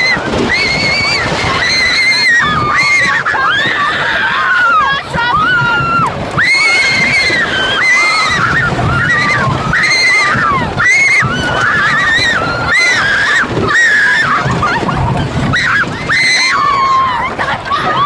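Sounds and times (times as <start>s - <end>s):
coaster train rumbling on track: 0.0s - 18.0s
riders screaming: 0.0s - 18.0s.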